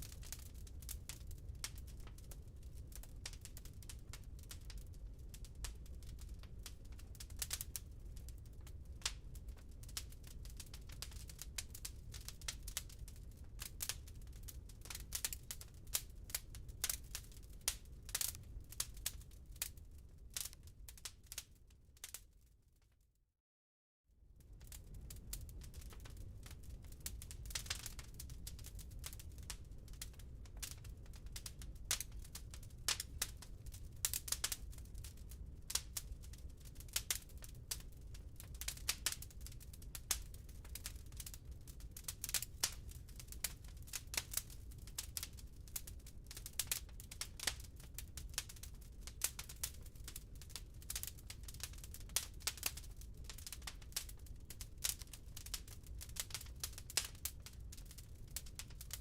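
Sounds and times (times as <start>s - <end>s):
firewood crackling: 0.0s - 22.3s, 24.5s - 59.0s
low fire rumble: 0.0s - 22.4s, 24.3s - 59.0s.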